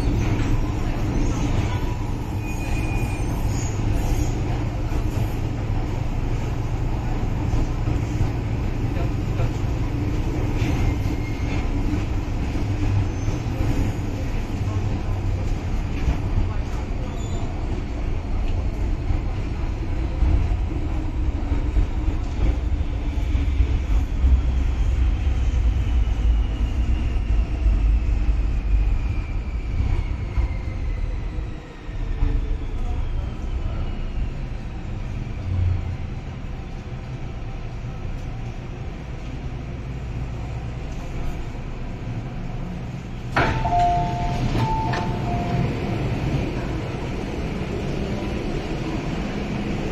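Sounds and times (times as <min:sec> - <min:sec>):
train wheels rumbling on track: 0:00.0 - 0:49.9.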